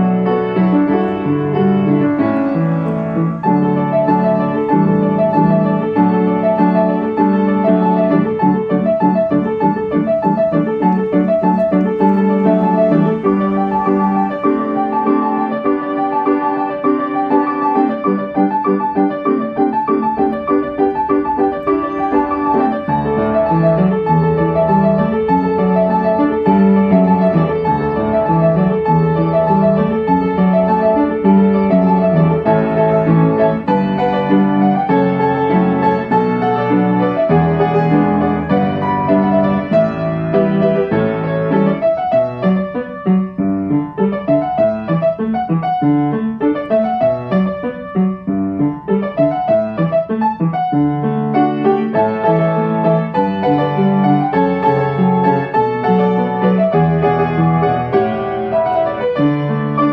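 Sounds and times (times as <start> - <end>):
calm piano music: 0.0 - 59.9.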